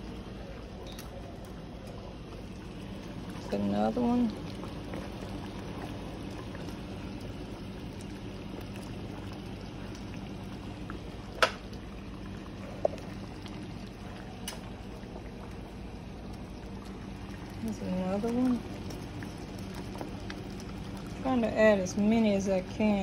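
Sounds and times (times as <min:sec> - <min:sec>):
gravy simmering in a skillet: 0:00.0 - 0:23.0.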